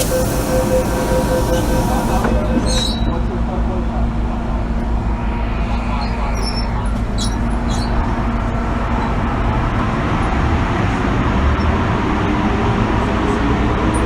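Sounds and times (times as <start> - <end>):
metro train wheels rumbling on rails: 0.0 - 14.0.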